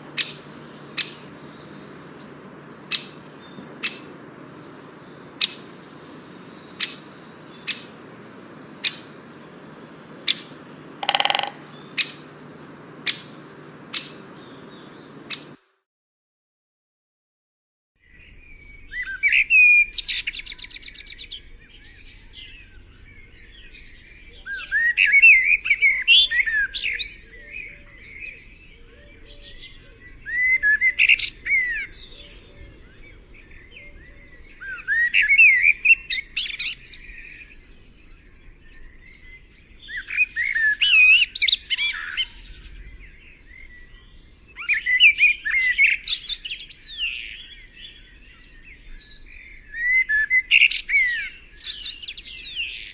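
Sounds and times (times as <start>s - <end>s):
songbird singing: 0.0s - 15.6s, 18.0s - 52.9s.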